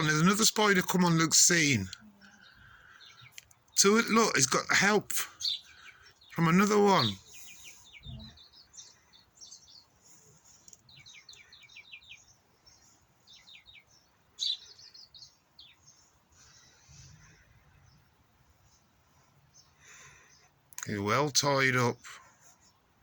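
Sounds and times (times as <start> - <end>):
small songbirds chirping: 0.0 - 23.0.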